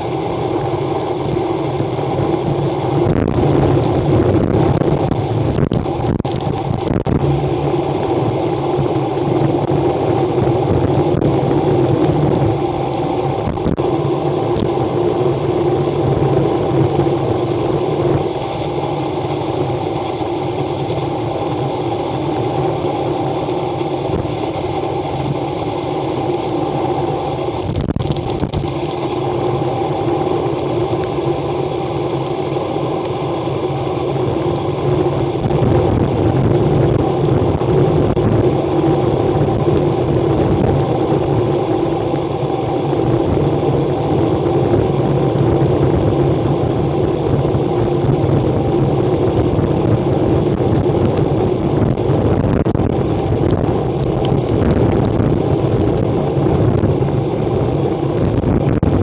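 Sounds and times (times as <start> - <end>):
wind rush: 0.0 - 59.0.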